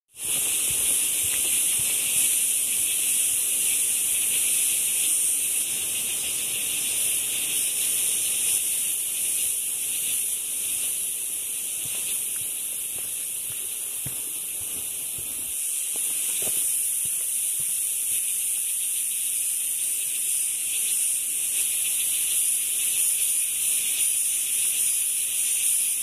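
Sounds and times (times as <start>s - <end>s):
cicadas droning: 0.1s - 26.0s.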